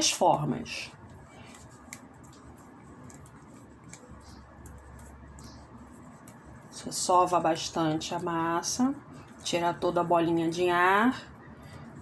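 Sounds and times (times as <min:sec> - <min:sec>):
hands kneading modelling clay: 0:00.0 - 0:12.0.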